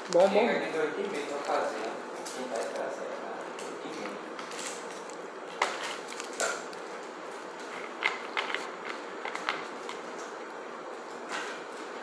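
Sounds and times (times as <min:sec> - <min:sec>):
foil crinkling: 0:00.1 - 0:10.2.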